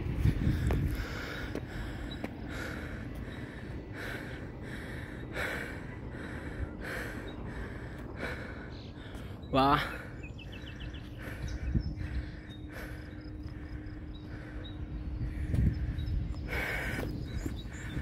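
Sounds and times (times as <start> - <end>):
man breathing hard: 0.2 - 18.0.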